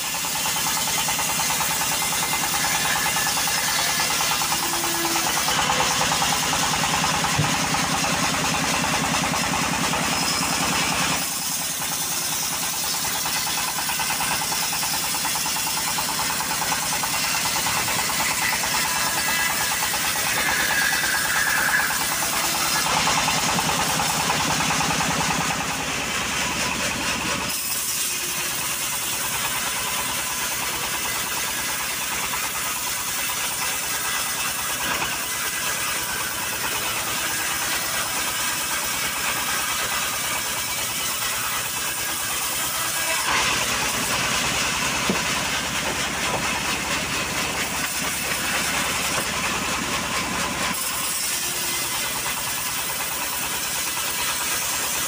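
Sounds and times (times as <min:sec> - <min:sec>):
band sawmill sawing log: 0:00.0 - 0:55.0.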